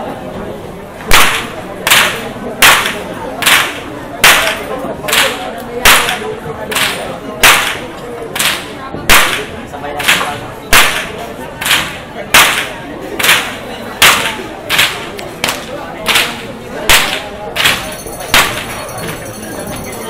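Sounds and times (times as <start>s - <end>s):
crowd murmur: 0.0s - 20.0s
bullwhip cracking: 1.1s - 17.8s.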